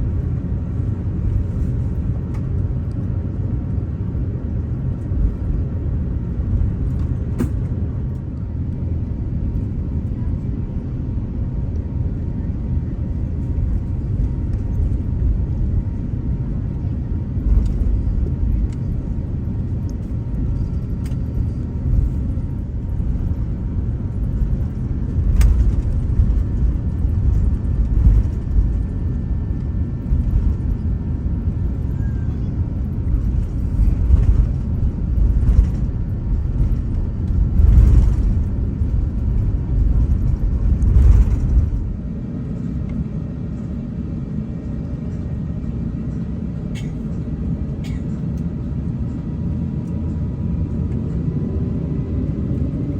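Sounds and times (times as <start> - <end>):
aircraft cabin rumble: 0.0 - 52.9
jet engines running: 0.0 - 52.9.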